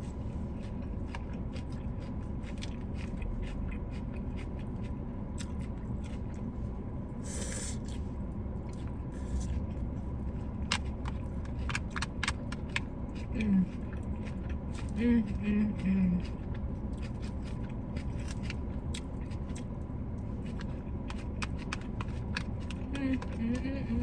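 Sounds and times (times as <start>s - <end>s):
chewing and mouth smacking: 0.5s - 6.6s, 7.4s - 9.8s, 10.6s - 23.8s.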